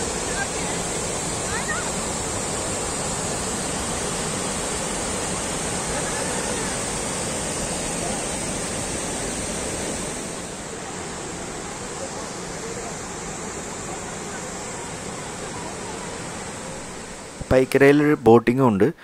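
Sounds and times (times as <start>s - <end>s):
waterfall rushing over rocks: 0.0s - 17.5s.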